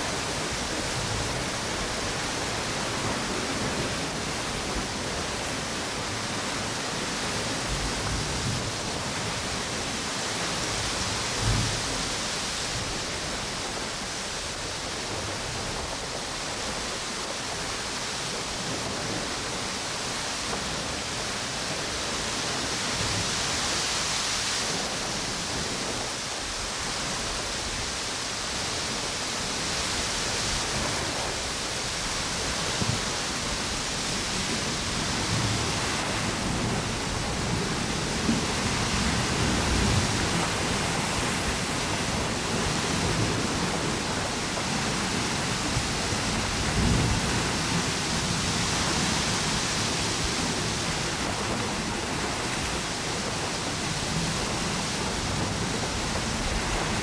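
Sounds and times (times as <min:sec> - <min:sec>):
ocean surf: 0:00.0 - 0:57.0
strong wind: 0:00.0 - 0:57.0.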